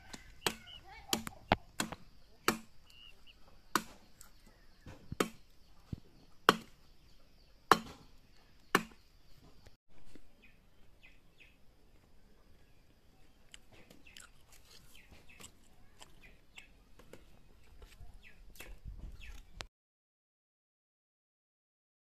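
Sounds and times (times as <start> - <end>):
small birds chirping faintly: 0.0 - 19.7.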